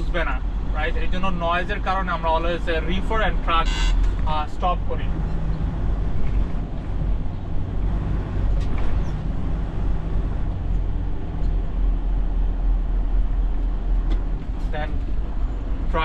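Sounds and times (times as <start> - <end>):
diesel truck engine drone: 0.0 - 16.0.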